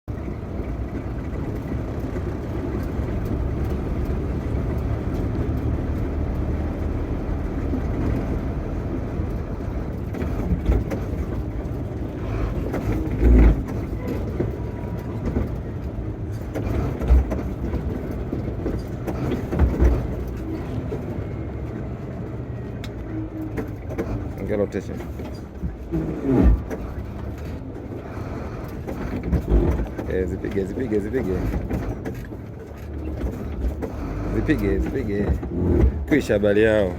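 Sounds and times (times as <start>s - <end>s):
diesel truck engine rumbling: 0.0s - 36.9s.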